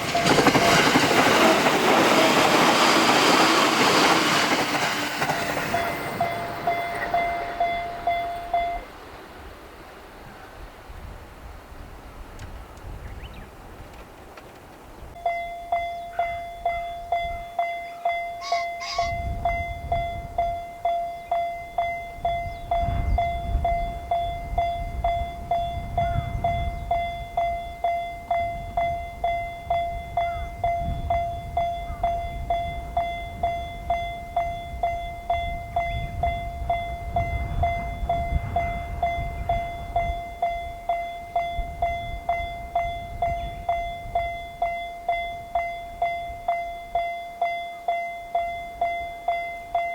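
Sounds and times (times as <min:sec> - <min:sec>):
level crossing alarm bell: 0:00.0 - 0:01.7, 0:04.8 - 0:09.0, 0:15.2 - 0:49.9.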